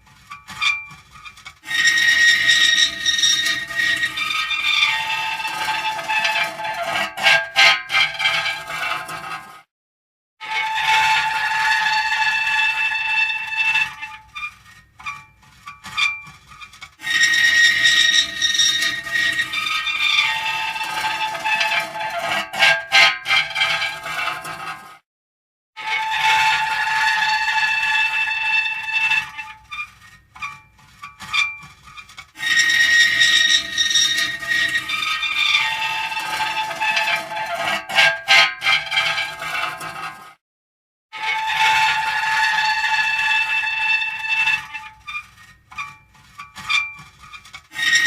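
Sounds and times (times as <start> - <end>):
metal creaking and squeaking: 0.0 - 9.5, 10.4 - 24.9, 25.8 - 40.2, 41.2 - 48.0.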